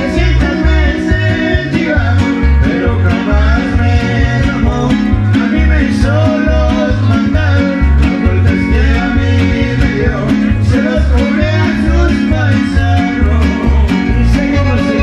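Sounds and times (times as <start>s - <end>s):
bass line: 0.0s - 15.0s
guitars strumming: 0.0s - 15.0s.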